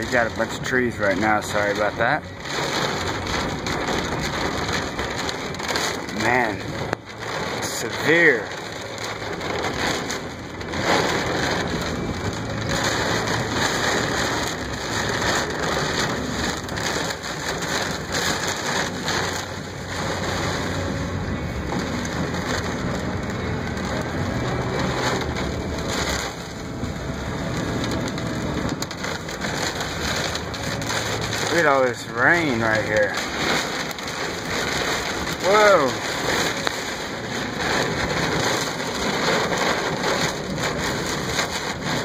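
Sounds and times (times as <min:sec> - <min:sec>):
heavy rain on car: 0:00.0 - 0:42.0.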